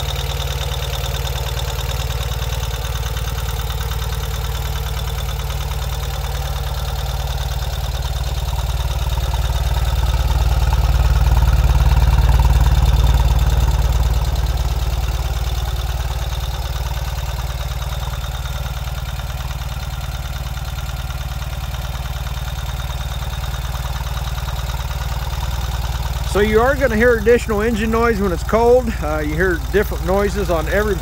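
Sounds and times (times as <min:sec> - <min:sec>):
motorcycle engine fast idle: 0:00.0 - 0:31.0.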